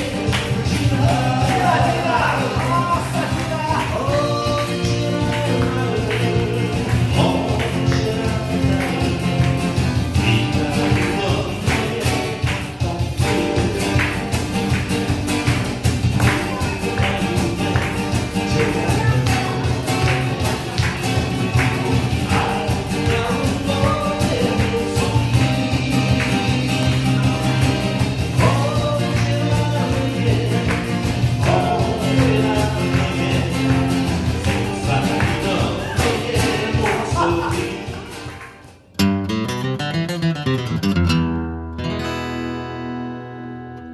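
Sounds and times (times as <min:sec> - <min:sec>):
person singing: 0:00.0 - 0:14.9, 0:16.2 - 0:38.2
acoustic guitars strumming: 0:00.0 - 0:43.9.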